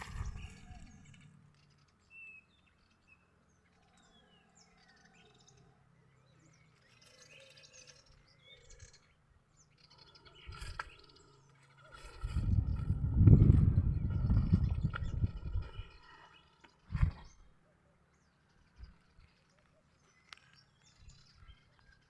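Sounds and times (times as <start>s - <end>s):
faint bird chirps and whistles: 0.0s - 22.0s.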